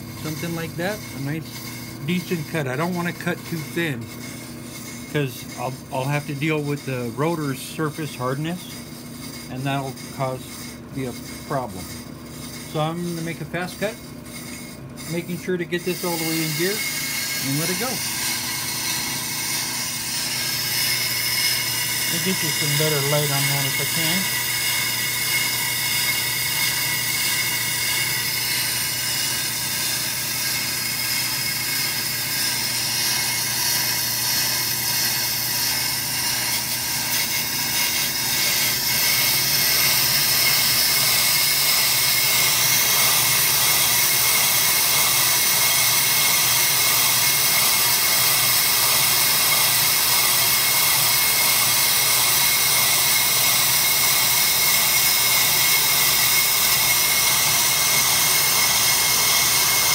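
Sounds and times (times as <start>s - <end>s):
brake lathe cutting hiss: 0.0s - 59.9s
lathe hum: 0.0s - 59.9s.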